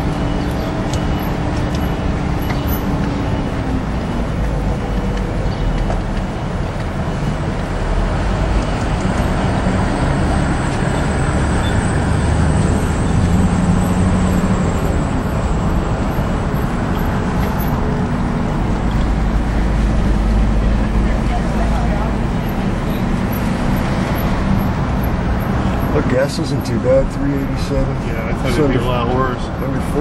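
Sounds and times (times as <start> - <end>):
engine hum inside vehicle: 0.0 - 30.0
road noise: 0.0 - 30.0.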